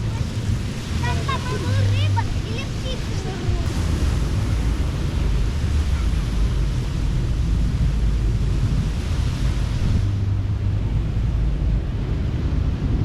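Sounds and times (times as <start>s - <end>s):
surf washing onto sand: 0.0s - 13.0s
wind buffeting microphone: 0.0s - 13.0s.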